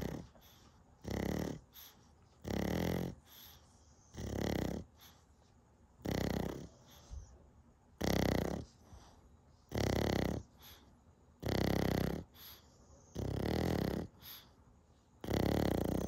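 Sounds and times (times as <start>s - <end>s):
dog snoring: 0.0s - 5.2s, 6.0s - 7.3s, 7.9s - 14.6s, 15.2s - 16.0s.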